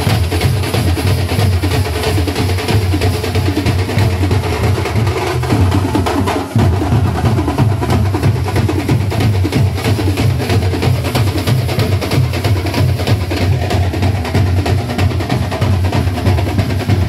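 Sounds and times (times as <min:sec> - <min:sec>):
barrel drums beaten with sticks: 0:00.0 - 0:17.0.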